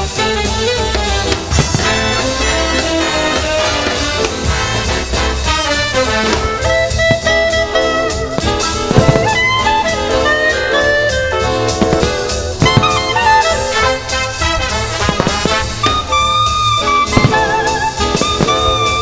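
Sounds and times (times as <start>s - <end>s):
jazzy music with brass and drums: 0.0s - 19.0s.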